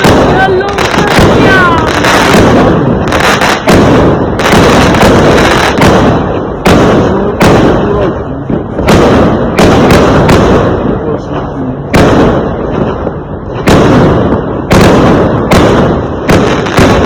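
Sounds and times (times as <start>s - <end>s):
fireworks bangs: 0.0s - 17.0s
fireworks crackle and rumble: 0.0s - 17.0s.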